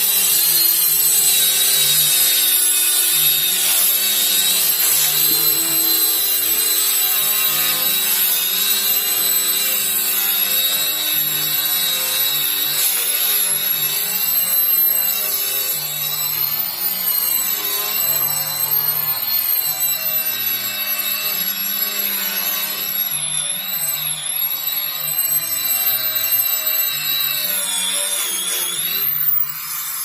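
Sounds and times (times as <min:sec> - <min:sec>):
power sander on wood: 0:00.0 - 0:30.0.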